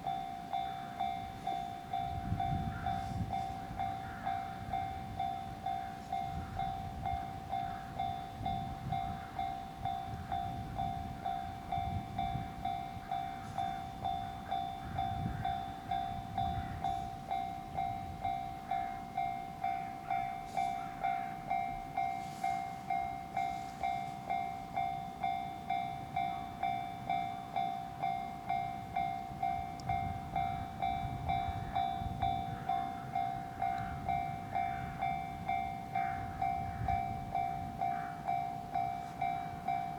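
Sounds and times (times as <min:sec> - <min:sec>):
freight train rumbling past: 0:00.0 - 0:39.9
pulsing steady tone: 0:00.0 - 0:39.9.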